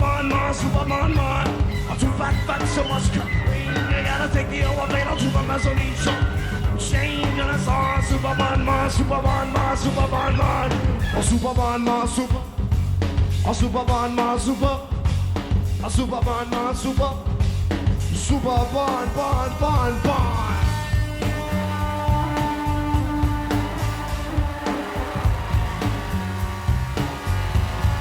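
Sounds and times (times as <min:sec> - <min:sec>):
drum beat: 0:00.0 - 0:28.0
live rock band instrumental: 0:00.0 - 0:28.0.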